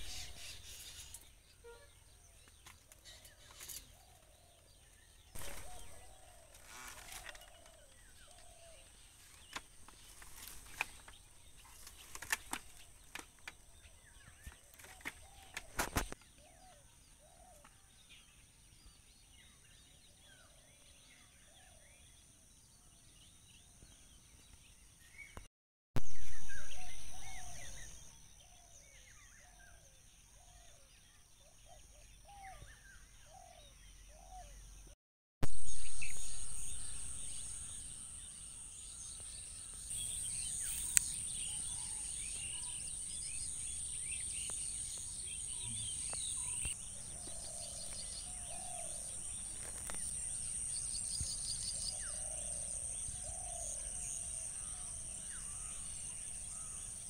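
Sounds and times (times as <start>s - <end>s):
birds chirping: 0.0s - 25.5s, 26.1s - 57.0s.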